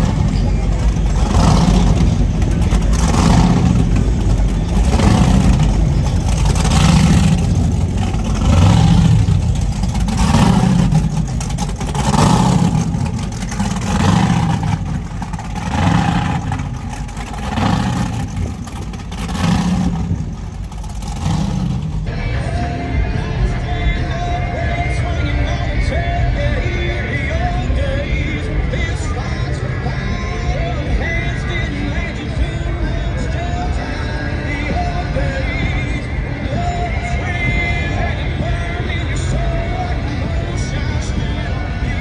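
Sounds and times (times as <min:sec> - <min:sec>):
boat engines revving: 0:00.0 - 0:42.0.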